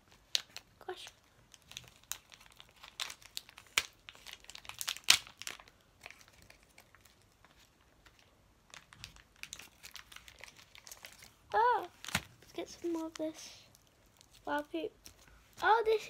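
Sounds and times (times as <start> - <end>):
plastic packet crinkling and tearing: 0.0 - 16.0.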